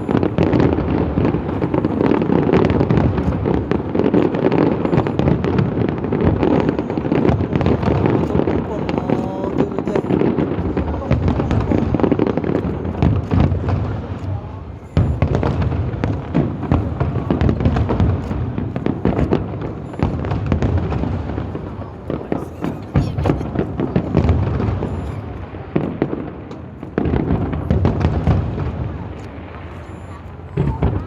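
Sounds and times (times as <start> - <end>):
fireworks cracks and booms: 0.0 - 31.0.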